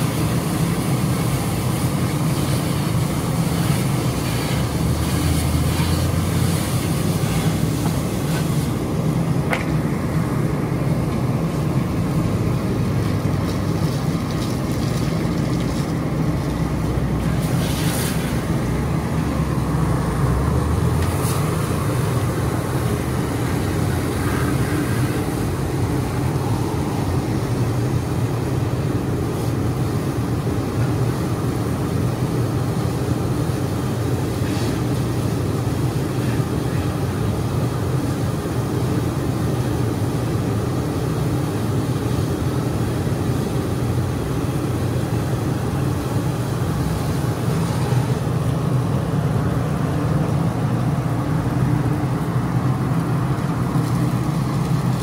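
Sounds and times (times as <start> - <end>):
diesel engine running: 0.0 - 55.0
hiss of water spray: 0.0 - 55.0.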